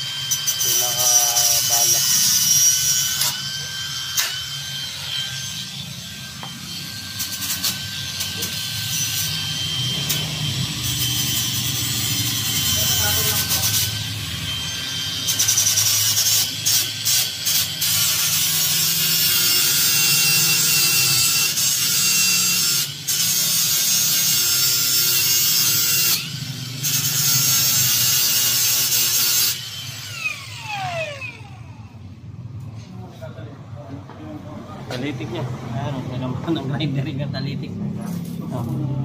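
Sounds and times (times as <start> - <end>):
angle grinder cutting steel pipe: 0.0 - 32.0.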